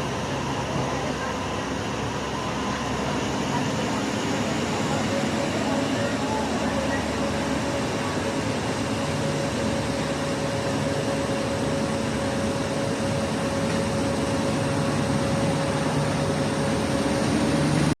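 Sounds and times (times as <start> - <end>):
train engine hum and rolling: 0.0 - 18.0.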